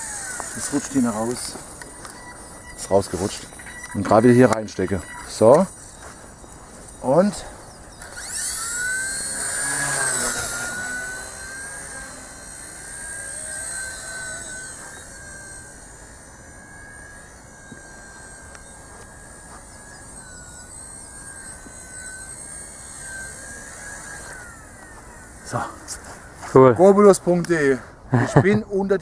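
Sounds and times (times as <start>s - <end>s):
rc helicopter rotors whining: 0.0s - 29.0s.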